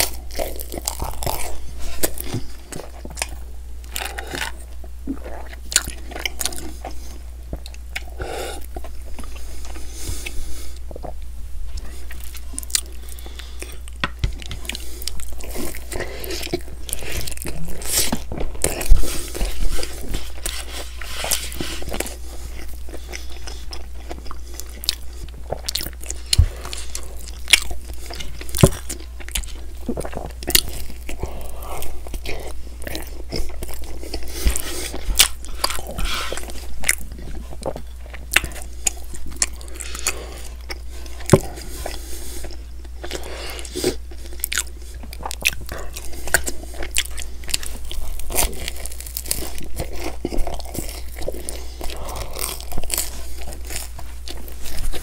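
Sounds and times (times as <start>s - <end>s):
chewing and biting pizza: 0.0s - 11.2s, 11.8s - 55.0s.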